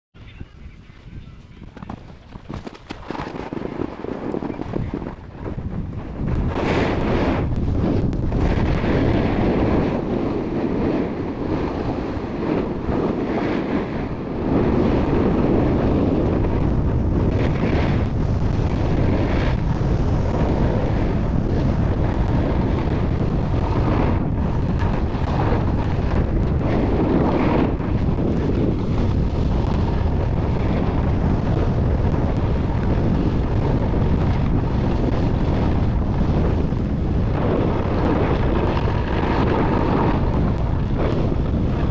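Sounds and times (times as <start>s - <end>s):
wind rushing over microphone: 0.1s - 41.9s.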